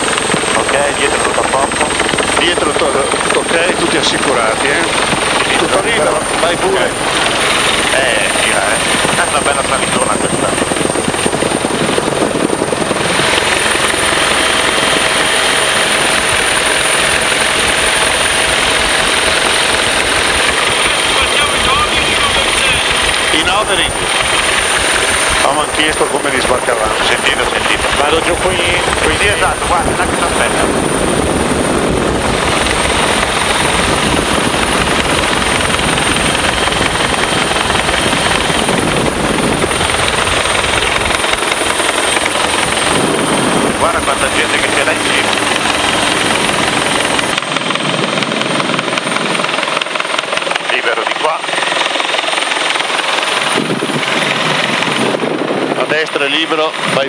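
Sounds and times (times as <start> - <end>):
helicopter turbine whine and rotor: 0.0 - 57.0.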